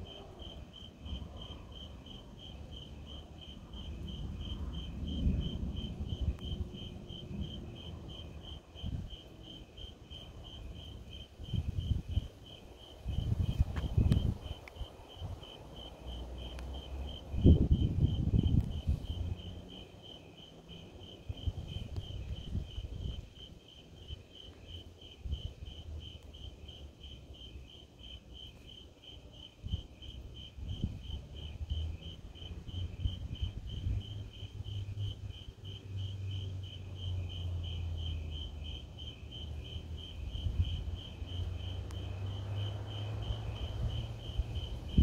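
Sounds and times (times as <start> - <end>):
crickets chirping: 0.0 - 45.0.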